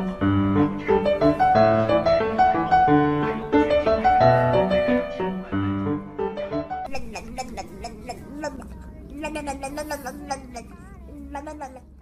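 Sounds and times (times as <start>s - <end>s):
piano music: 0.0s - 10.4s.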